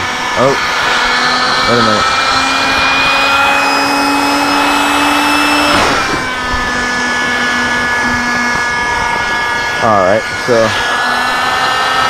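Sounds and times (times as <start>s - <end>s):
electric air pump whining: 0.0s - 12.0s.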